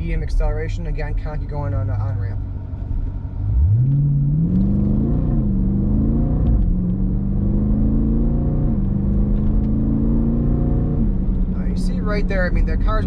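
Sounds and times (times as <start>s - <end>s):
car engine accelerating hard: 1.5s - 13.0s.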